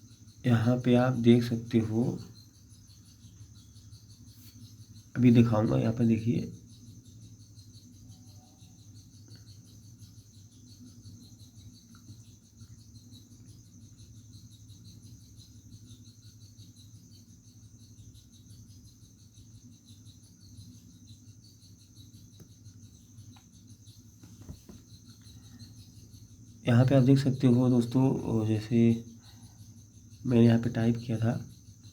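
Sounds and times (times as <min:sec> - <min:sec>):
crickets trilling: 0:00.0 - 0:31.9.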